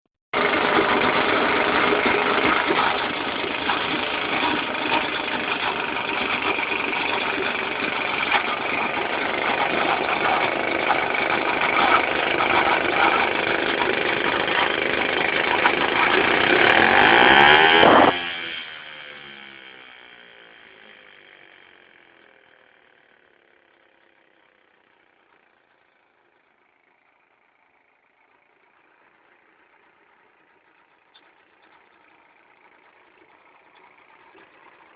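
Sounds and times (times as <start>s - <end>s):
outboard motor running: 0.4s - 34.9s.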